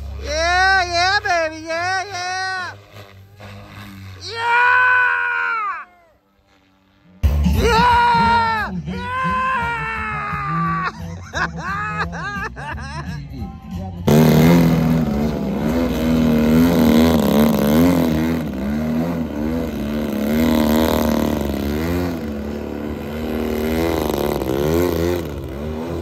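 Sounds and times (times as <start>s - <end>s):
model aircraft engine running: 0.0s - 12.7s, 14.0s - 26.0s.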